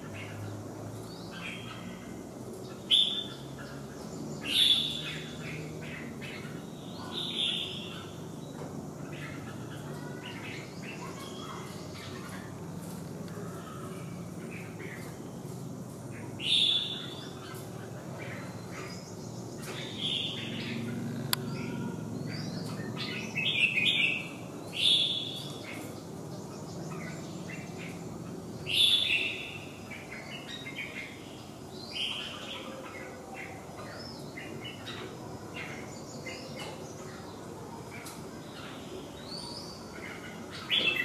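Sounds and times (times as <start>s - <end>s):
birds calling loudly: 0.0s - 41.0s
faint bird chirps: 2.8s - 41.0s.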